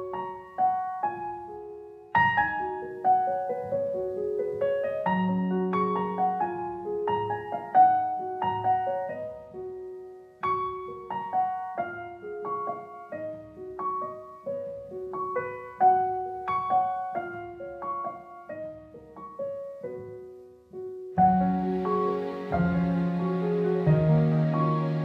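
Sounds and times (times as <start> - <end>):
soft piano melody: 0.0 - 25.0.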